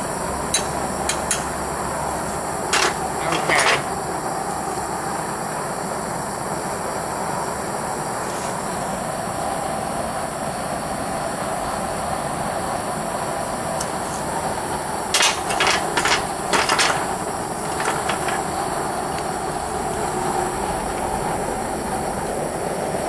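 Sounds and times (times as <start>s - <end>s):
gas burner roar: 0.0s - 23.0s.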